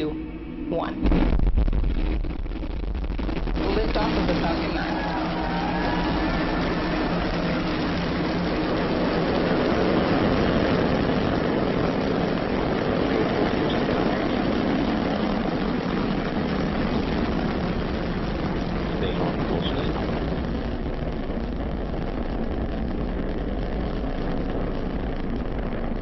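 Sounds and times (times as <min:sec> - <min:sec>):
rocket engines roaring: 0:00.0 - 0:26.0.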